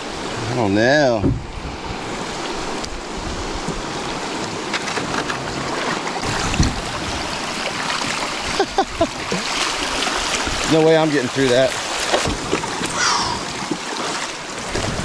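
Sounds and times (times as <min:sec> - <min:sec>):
paddle splashes and hull knocks: 0:00.0 - 0:15.0
river water rushing over rocks: 0:00.0 - 0:15.0.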